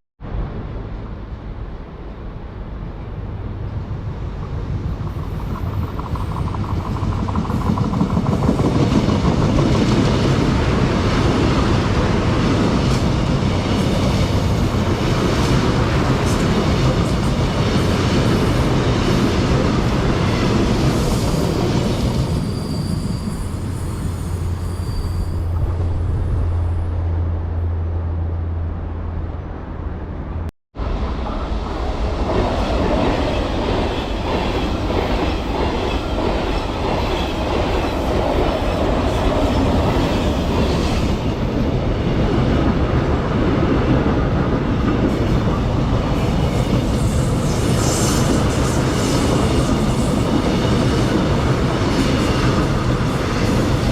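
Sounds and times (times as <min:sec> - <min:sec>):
train wheels rumbling on track: 0:00.3 - 0:53.9.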